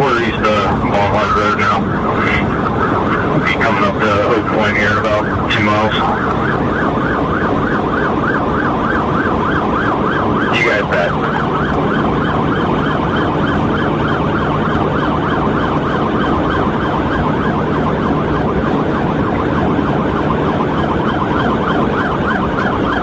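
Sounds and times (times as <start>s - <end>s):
police siren yelping: 0.0s - 23.0s
road and engine noise: 0.0s - 23.0s.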